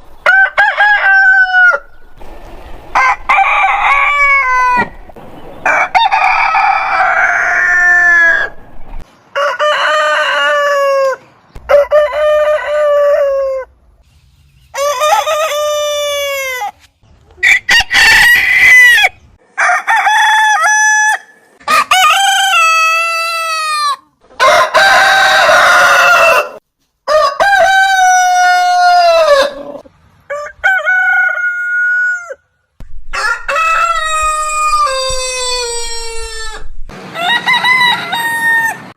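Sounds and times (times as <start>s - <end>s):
roosters crowing: 0.2s - 13.8s, 14.7s - 16.8s, 17.4s - 32.5s, 33.1s - 38.9s.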